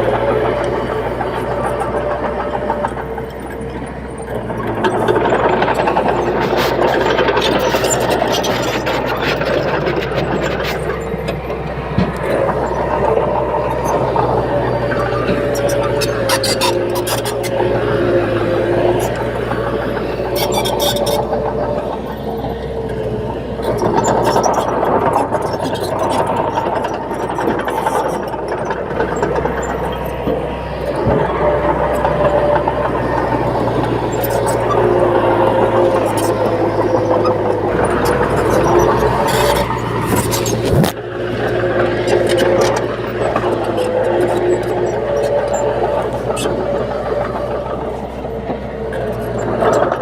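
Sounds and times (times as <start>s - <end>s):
bulldozer diesel engine under load: 0.0s - 50.0s.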